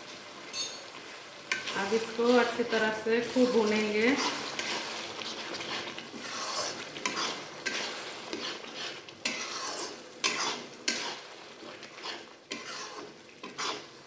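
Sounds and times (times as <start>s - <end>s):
masala sizzling in hot oil: 0.0s - 14.0s
metal spatula scraping pan: 1.5s - 14.0s.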